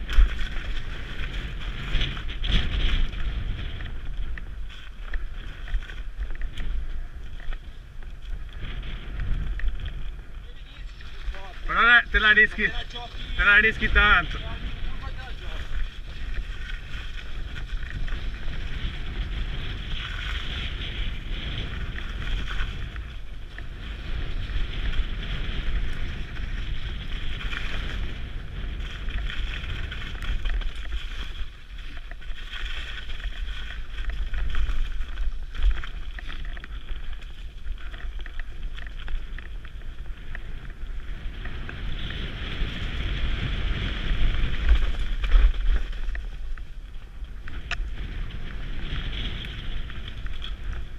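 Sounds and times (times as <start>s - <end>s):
mountain bike rumbling on trail: 0.0s - 50.9s
wind buffeting microphone: 0.0s - 50.9s.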